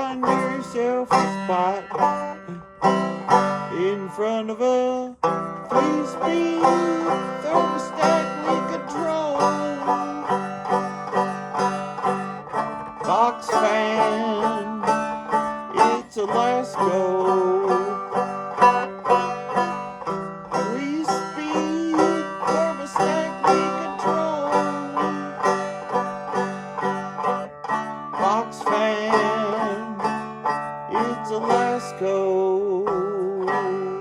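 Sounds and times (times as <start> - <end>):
banjo picking: 0.0 - 34.0
plucked strings: 0.0 - 34.0.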